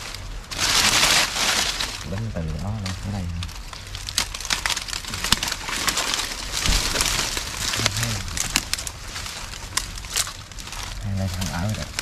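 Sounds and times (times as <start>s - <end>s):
dry leaves crackling and snapping: 0.0s - 12.0s
leaves rustling: 0.0s - 12.0s.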